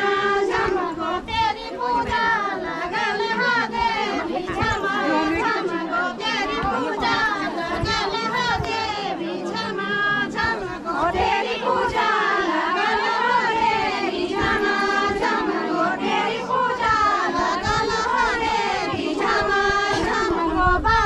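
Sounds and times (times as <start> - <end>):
women singing in chorus: 0.0 - 21.0.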